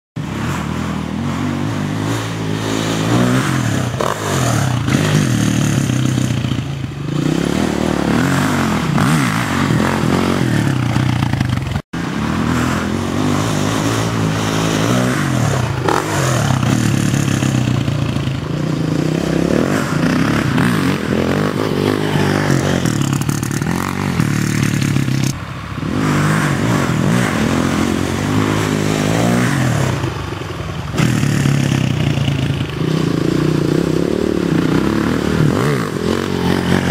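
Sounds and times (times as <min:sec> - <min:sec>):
quad engines revving: 0:00.2 - 0:36.9.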